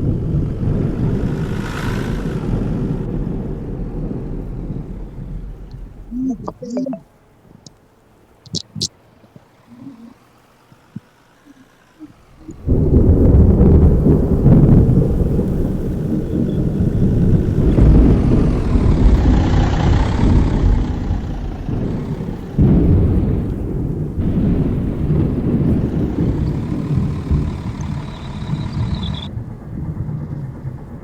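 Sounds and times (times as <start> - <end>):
heavy vehicle engine rumble: 0.0 - 31.0.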